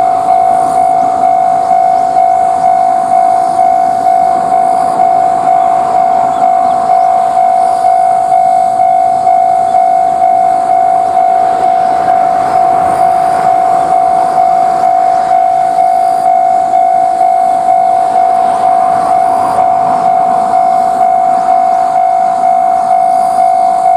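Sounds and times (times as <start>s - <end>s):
passing train rumble: 0.0s - 23.9s
railroad crossing bell ringing: 0.0s - 23.9s.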